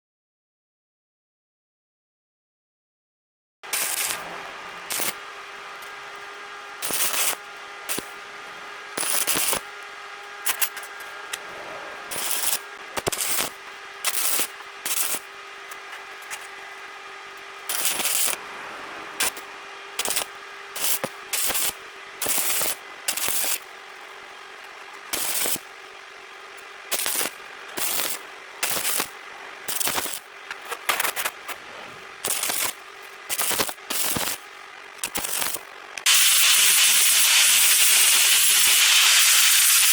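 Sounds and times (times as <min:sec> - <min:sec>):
arc welding crackling bursts: 0:03.6 - 0:39.9
steady hum: 0:03.6 - 0:39.9.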